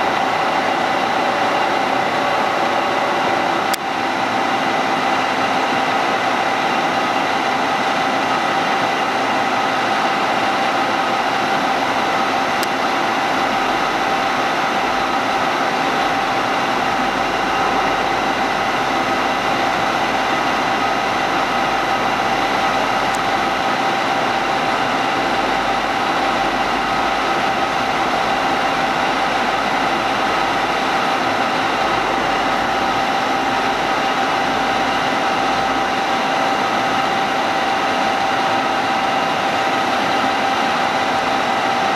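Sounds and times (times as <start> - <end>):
milling machine whine: 0.0 - 41.9.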